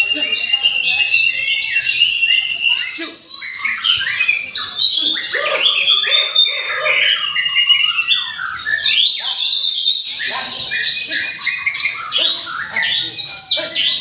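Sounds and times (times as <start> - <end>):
songbird singing varied whistles: 0.0 - 14.0.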